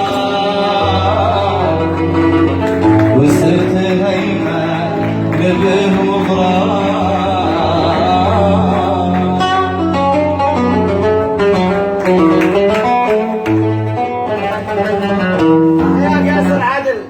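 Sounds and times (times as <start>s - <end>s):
oud melody plucked: 0.0s - 16.6s.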